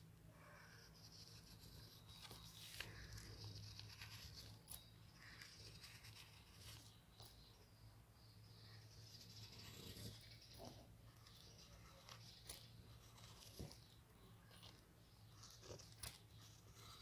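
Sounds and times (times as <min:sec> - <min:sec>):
ballpoint pen scratching paper: 0:00.8 - 0:07.0, 0:09.0 - 0:17.0.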